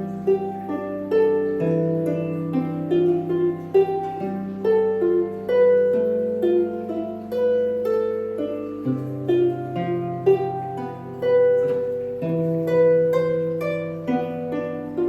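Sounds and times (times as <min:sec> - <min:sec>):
harp plucked notes: 0:00.0 - 0:15.0.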